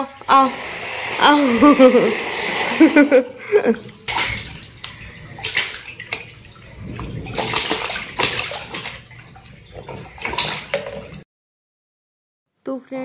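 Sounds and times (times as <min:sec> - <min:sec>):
baby splashing bath water: 0:00.0 - 0:11.2.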